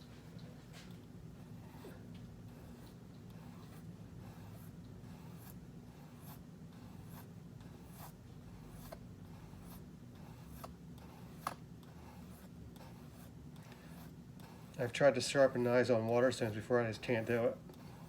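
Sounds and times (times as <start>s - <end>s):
steady low hum: 0.0s - 18.0s
knife scraping on oil stone: 1.7s - 18.0s.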